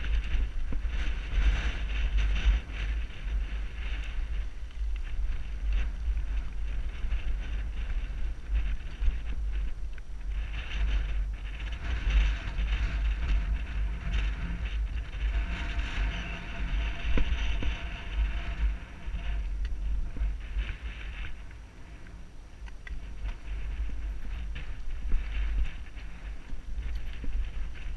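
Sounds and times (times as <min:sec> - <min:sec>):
bike tyres on dirt: 0:00.0 - 0:27.9
wind buffeting microphone: 0:00.0 - 0:27.9.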